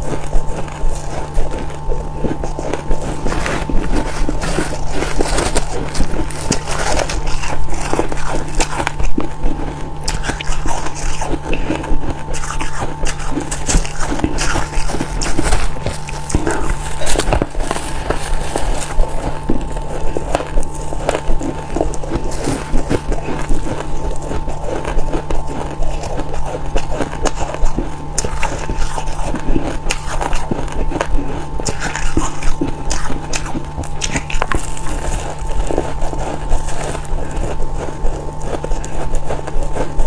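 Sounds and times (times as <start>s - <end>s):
frost being chewed: 0.0s - 40.0s
steady hum: 0.0s - 40.0s.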